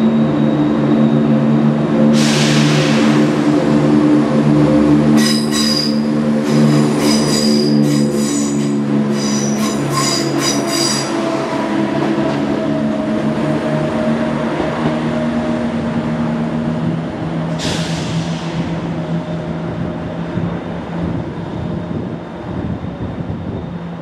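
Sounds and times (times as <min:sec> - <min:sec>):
train diesel engine humming: 0:00.0 - 0:24.0
train engine rumble: 0:00.0 - 0:24.0.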